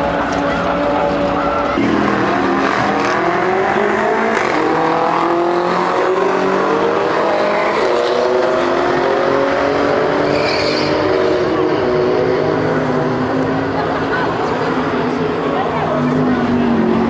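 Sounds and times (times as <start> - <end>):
car engines revving hard: 0.0 - 17.0.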